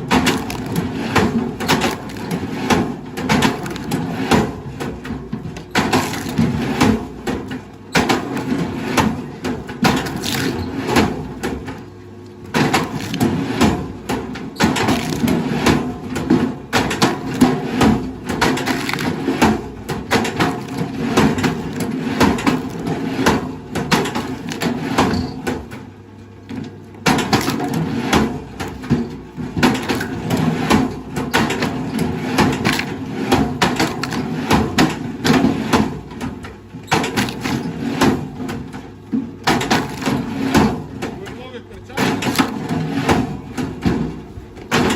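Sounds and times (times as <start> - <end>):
wood cracking and crunching: 0.0 - 25.8, 26.5 - 44.9.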